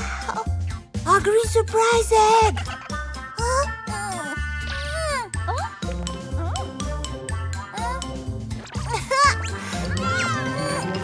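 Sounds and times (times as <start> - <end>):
bouncy bass beat: 0.0 - 11.0
cartoon background music: 0.0 - 11.0.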